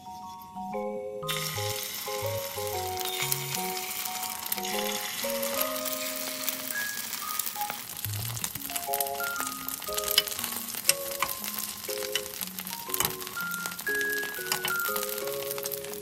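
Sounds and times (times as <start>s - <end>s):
light music with plucked notes: 0.0s - 16.0s
egg batter sizzling in pan: 1.3s - 16.0s.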